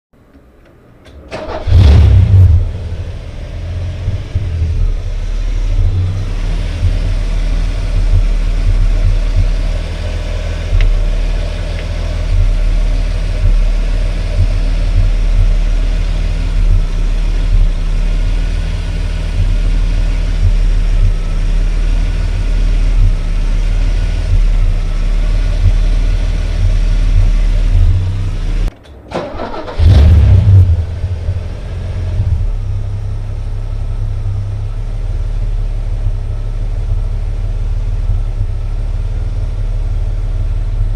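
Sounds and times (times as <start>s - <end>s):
car engine idling roughly: 2.6s - 40.9s.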